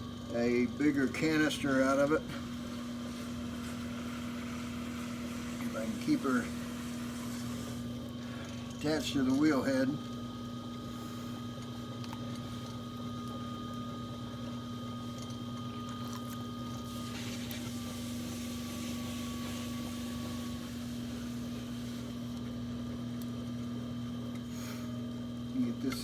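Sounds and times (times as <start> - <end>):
potter's wheel motor hum: 0.0 - 26.0.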